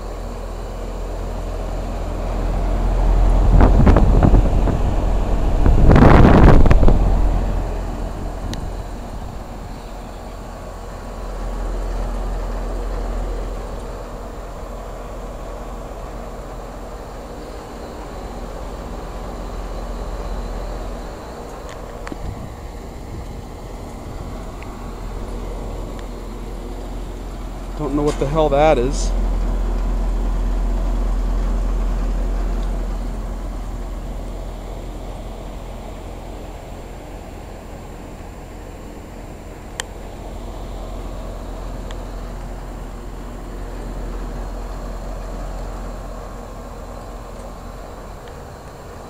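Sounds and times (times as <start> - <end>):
heat pump unit humming: 0.0 - 49.0.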